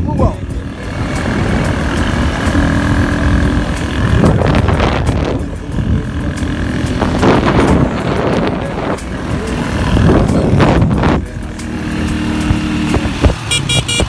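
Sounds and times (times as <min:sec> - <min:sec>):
wind buffeting microphone: 0:00.0 - 0:11.6, 0:12.2 - 0:14.0
motorcycle engine running: 0:00.0 - 0:14.0
rushes of noise: 0:00.0 - 0:14.0.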